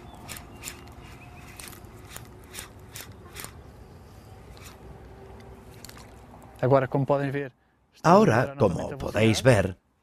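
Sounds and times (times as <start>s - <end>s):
steady outdoor hiss: 0.0s - 10.0s.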